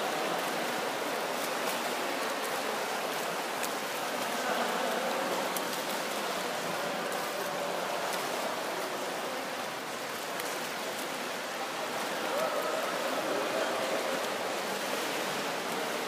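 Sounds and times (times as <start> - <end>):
swimmer splashing water: 0.0 - 16.0.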